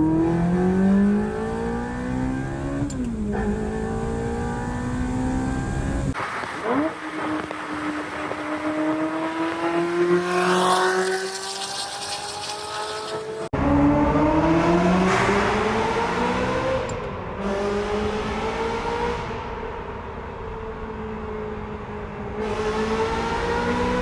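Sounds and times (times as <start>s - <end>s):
sports car engine revving: 0.0s - 24.0s.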